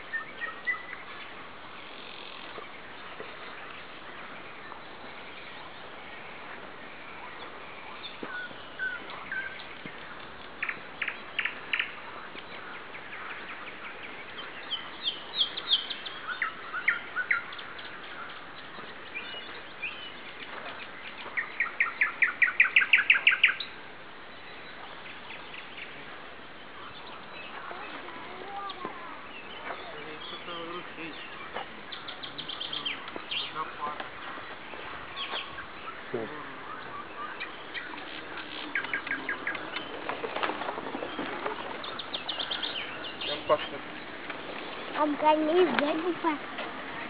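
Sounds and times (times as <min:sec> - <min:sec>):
nightingale singing: 0:00.0 - 0:46.4.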